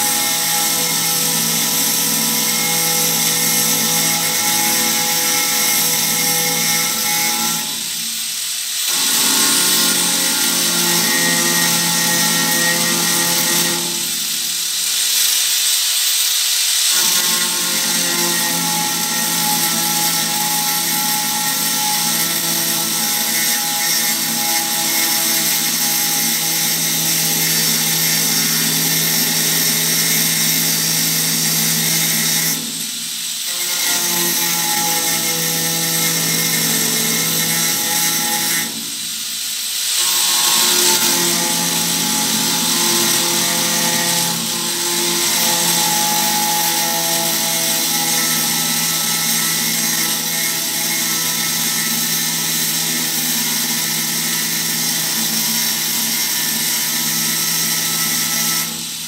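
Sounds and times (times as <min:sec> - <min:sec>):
electric drill motor running: 0:00.0 - 0:59.0.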